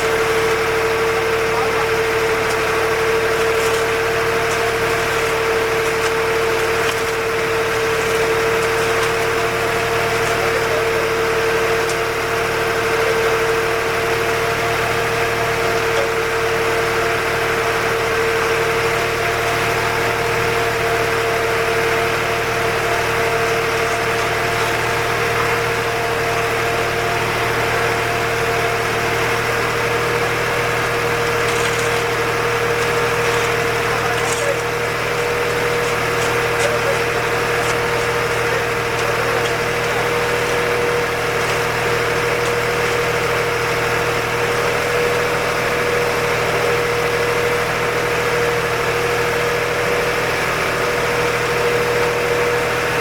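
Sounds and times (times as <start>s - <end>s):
steady whine: 0.0s - 46.6s
truck engine running: 0.0s - 53.0s.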